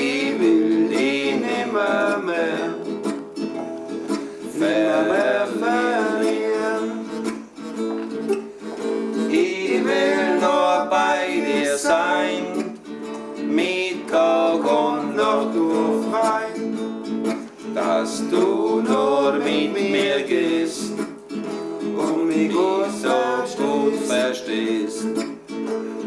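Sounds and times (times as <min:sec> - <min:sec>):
man singing folk song: 0:00.0 - 0:07.8, 0:08.6 - 0:26.0
strummed acoustic guitar: 0:00.0 - 0:26.0.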